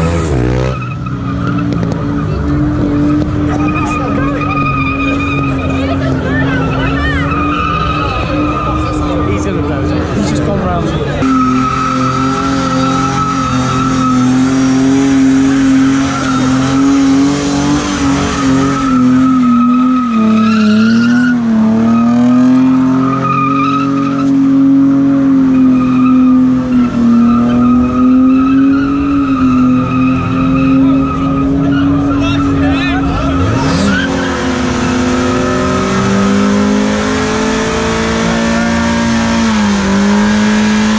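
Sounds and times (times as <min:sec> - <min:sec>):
car engine revving high: 0:00.0 - 0:40.9
tyres screeching on tarmac: 0:00.0 - 0:40.9.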